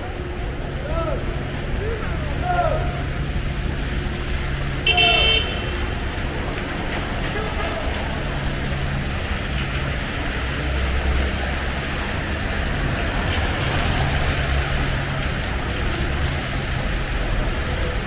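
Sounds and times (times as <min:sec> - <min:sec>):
street traffic noise: 0:00.0 - 0:18.0
vehicle engines humming: 0:00.0 - 0:18.0.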